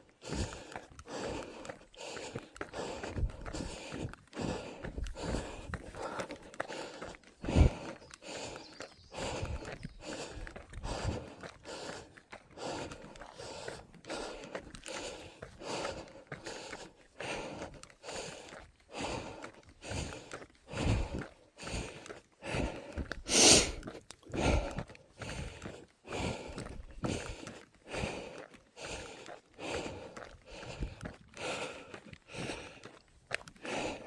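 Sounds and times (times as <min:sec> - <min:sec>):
person breathing hard: 0:00.0 - 0:34.0.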